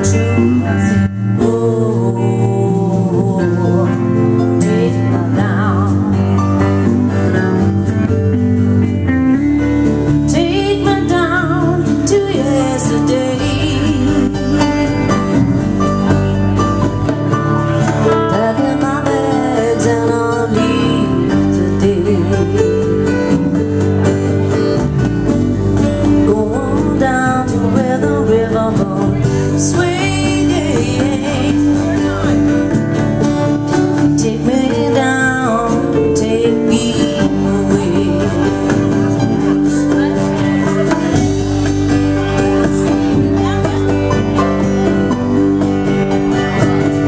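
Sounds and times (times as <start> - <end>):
live country-rock band: 0.0 - 47.0
wavering lead guitar line: 0.0 - 47.0.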